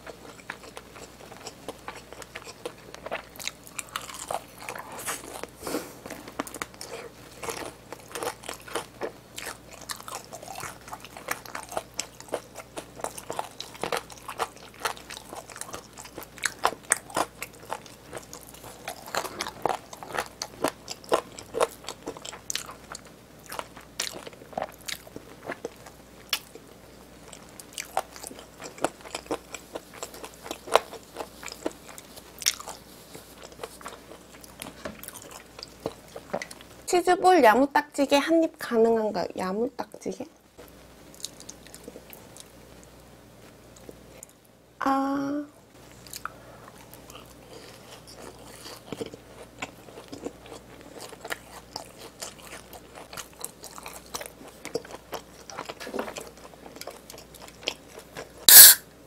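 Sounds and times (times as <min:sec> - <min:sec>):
chewing crisp fried chicken: 0:00.0 - 0:36.9, 0:40.6 - 0:44.4, 0:45.8 - 0:58.7.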